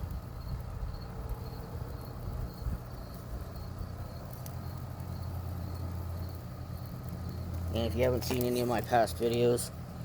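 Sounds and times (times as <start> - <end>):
crickets chirping: 0.0 - 10.0
steady low hum: 0.0 - 10.0.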